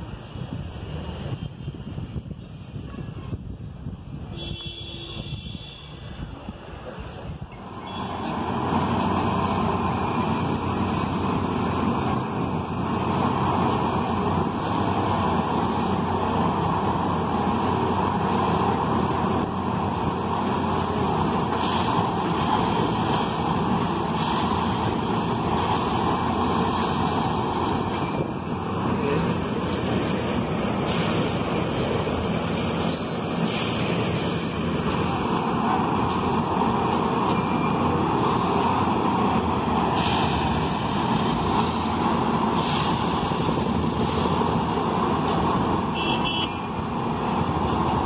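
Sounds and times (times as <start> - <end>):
diesel engine running: 7.4 - 48.0.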